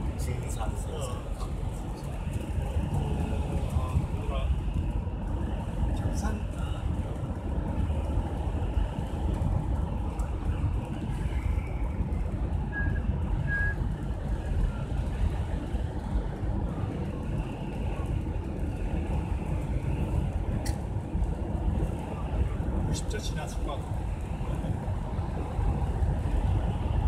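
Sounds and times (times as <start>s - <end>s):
car road noise on wet highway: 0.0s - 27.0s.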